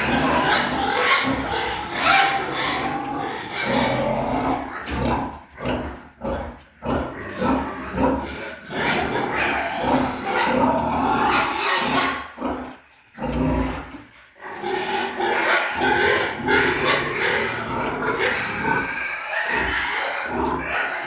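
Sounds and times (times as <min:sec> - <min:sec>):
pigs grunting: 0:00.0 - 0:21.0.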